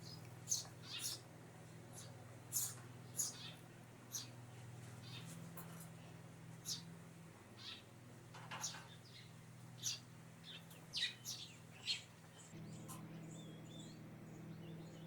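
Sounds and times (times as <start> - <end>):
sparrow chirping: 0.0 - 6.9, 7.6 - 15.0.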